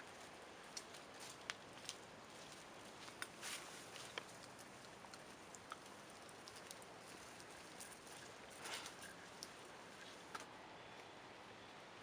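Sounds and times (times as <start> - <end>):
sticks ticking in campfire ash: 0.7 - 10.5.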